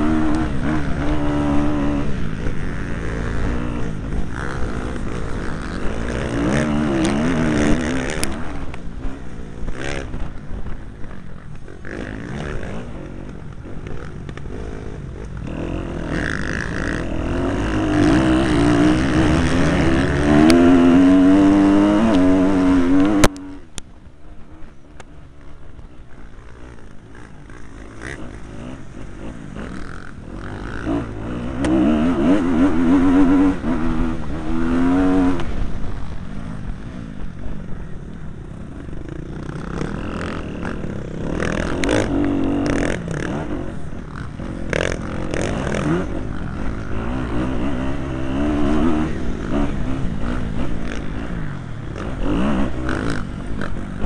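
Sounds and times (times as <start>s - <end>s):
motocross bike engine revving: 0.0s - 23.7s, 24.6s - 54.0s.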